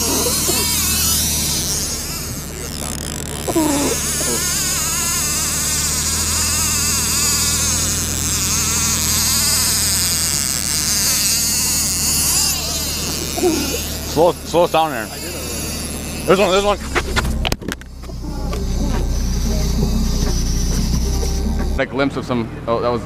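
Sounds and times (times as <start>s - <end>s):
fishing reel drag buzzing: 0.0s - 21.8s
boat motor hum: 0.0s - 23.0s.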